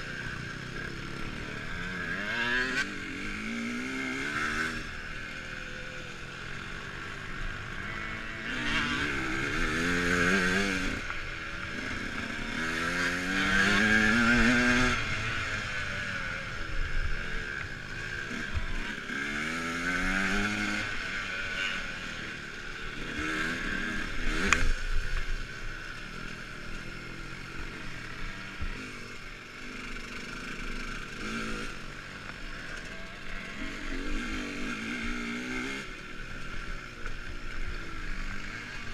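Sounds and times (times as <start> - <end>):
dirt bike accelerating: 0.0 - 38.9.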